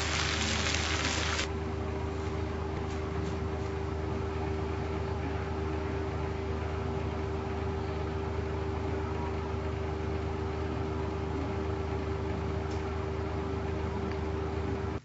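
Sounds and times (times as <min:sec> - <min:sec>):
mechanical hum with low rumble: 0:00.0 - 0:15.0.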